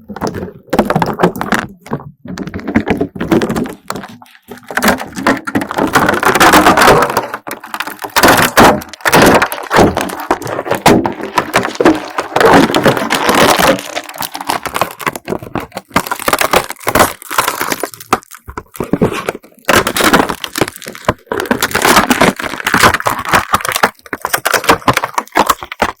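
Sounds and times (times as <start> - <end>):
dried slime crackling and popping: 0.0 - 26.0.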